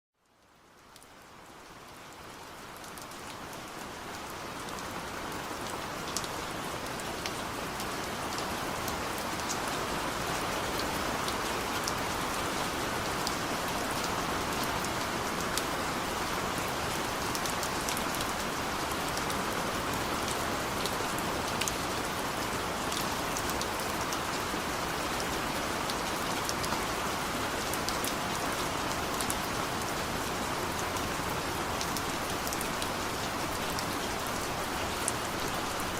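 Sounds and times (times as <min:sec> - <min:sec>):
steady rain: 0:00.2 - 0:35.9.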